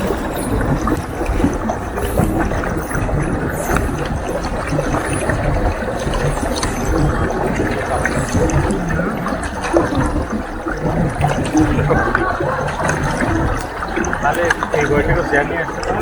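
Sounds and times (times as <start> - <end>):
water splashing against pedal boat: 0.0 - 16.0.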